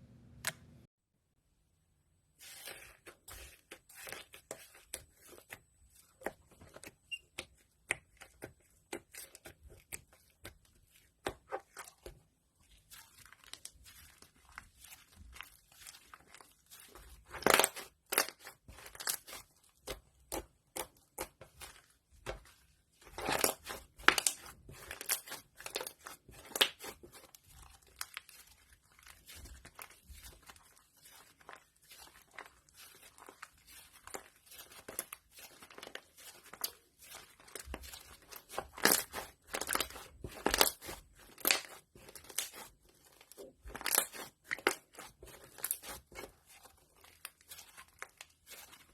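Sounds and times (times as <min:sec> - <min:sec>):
slime squishing with sticky clicks: 0:02.9 - 0:48.9.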